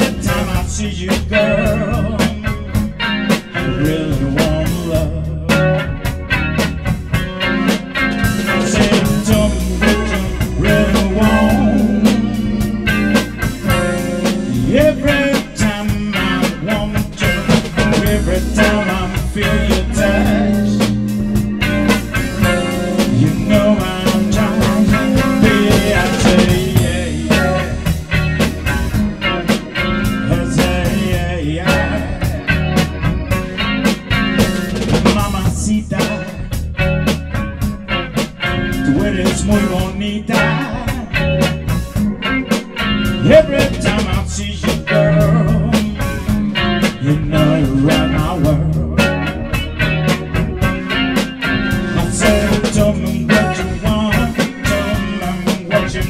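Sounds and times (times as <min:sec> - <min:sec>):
blues-rock band playing: 0:00.0 - 0:56.0
steady drum beat: 0:00.0 - 0:56.0.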